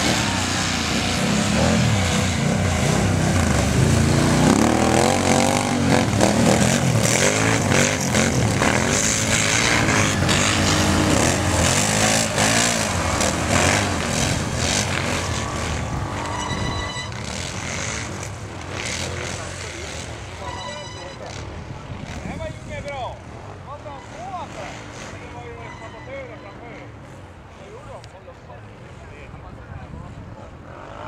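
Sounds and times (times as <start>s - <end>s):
atv engines revving: 0.0s - 29.1s, 30.1s - 31.0s.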